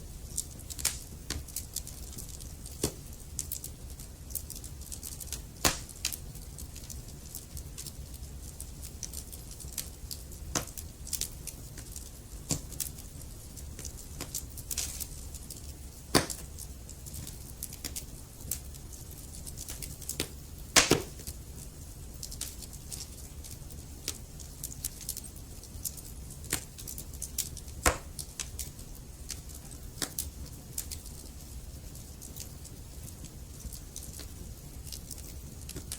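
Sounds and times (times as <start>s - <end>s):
low rumble of flames: 0.0s - 35.9s
wood fire crackling and popping: 0.0s - 35.9s.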